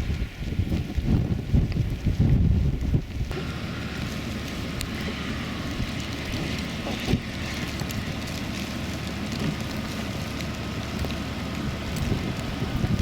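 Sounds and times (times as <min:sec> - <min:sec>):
vehicle running: 0:00.0 - 0:13.0
wind buffeting microphone: 0:00.0 - 0:13.0.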